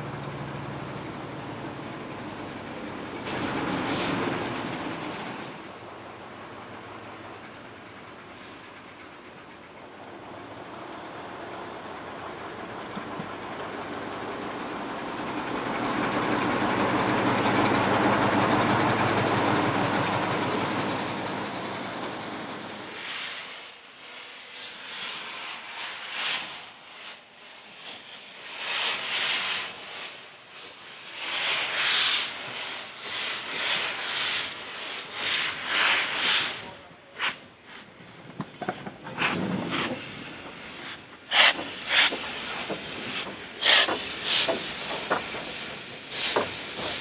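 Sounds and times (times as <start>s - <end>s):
steam locomotive chuffing: 0.0s - 47.0s.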